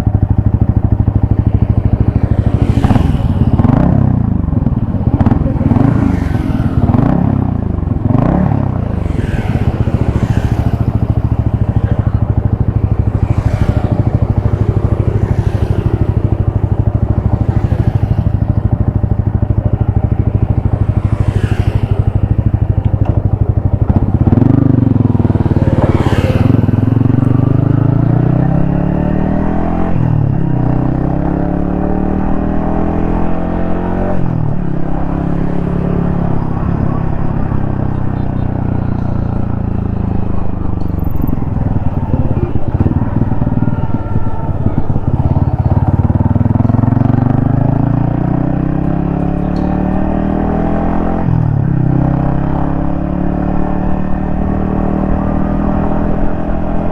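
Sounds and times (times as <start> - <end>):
motorcycle engine: 0.0 - 56.9
traffic swishing past: 0.0 - 56.9.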